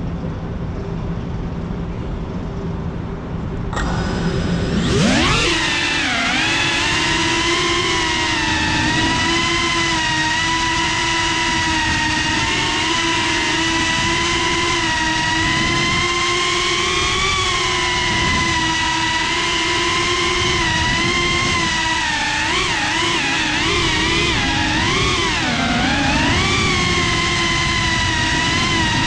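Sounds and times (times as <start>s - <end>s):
drone motors whining: 3.6s - 29.0s.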